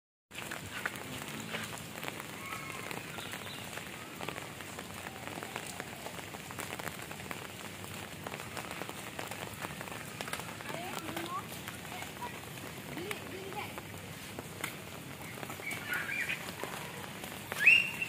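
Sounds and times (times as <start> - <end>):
rain on hard surfaces: 0.3 - 18.0
raindrop ticks: 0.3 - 18.0.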